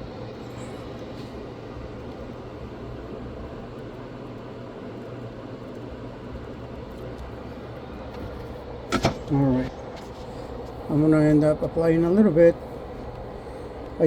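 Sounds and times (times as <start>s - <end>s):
small blower fan hissing: 0.0s - 14.0s.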